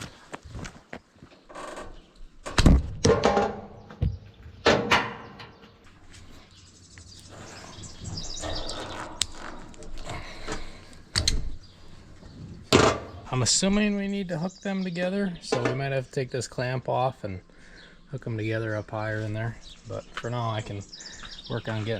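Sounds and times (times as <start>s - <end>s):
birds chirping: 3.6s - 21.9s.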